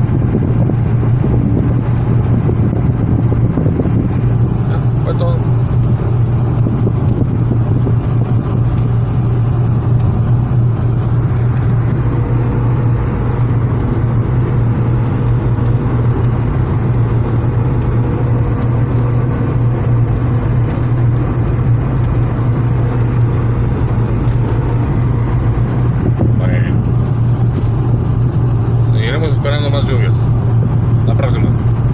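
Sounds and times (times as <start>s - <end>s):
constant low vehicle hum: 0.0s - 31.9s
rushing road noise in rain: 0.0s - 31.9s.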